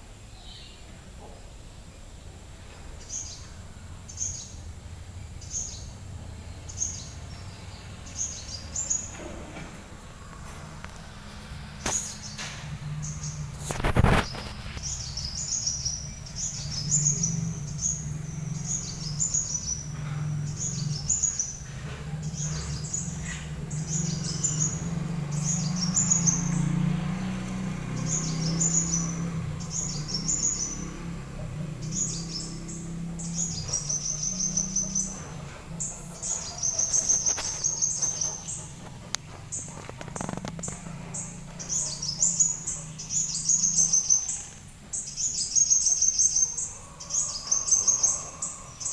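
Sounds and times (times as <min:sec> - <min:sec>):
songbird chirping and trilling: 0:00.0 - 0:48.9.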